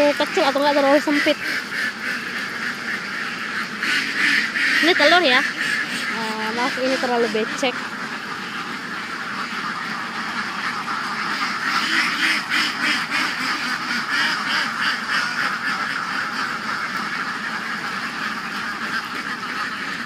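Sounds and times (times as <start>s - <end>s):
flock of ducks quacking: 0.0s - 20.0s.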